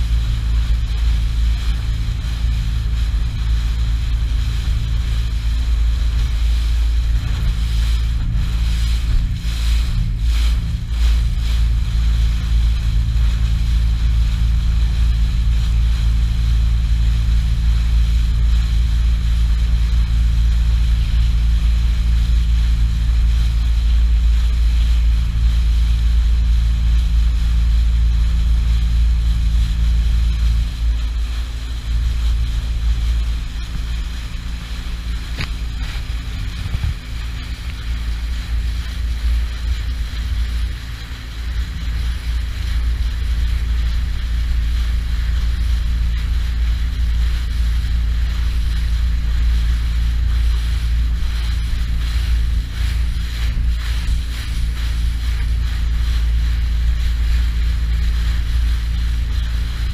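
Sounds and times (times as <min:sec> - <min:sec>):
boat motor running: 0:00.0 - 0:59.9
water rushing past: 0:00.0 - 0:59.9
wind buffeting microphone: 0:00.0 - 0:59.9.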